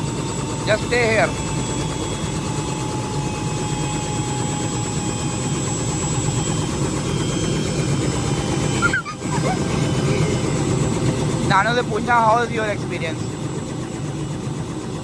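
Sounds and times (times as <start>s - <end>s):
helicopter turbine and rotor: 0.0s - 15.0s.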